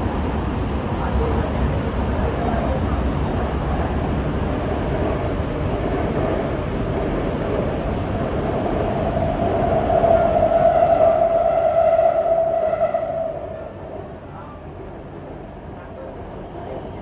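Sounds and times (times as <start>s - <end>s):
train rumbling inside car: 0.0s - 17.0s.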